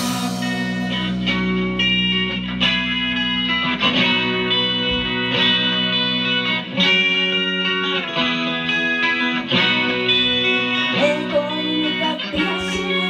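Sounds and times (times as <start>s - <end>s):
electric guitar chords: 0.0s - 13.0s
live rock band playing: 0.0s - 13.0s.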